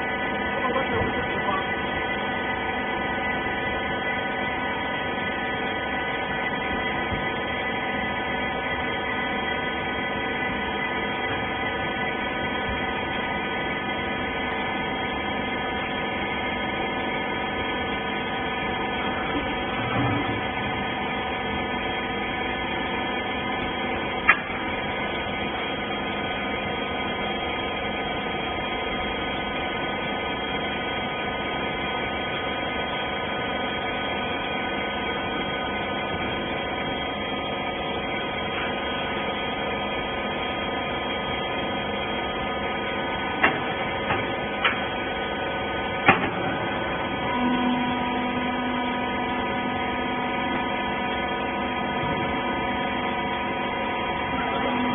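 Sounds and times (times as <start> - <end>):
baler machine hum: 0.0 - 54.9.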